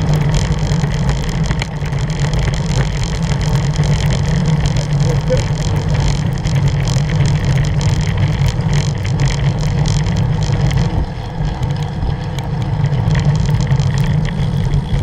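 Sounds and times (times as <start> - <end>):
bicycle rattles and ticks: 0.0 - 15.0
tyres rumbling on road: 0.0 - 15.0.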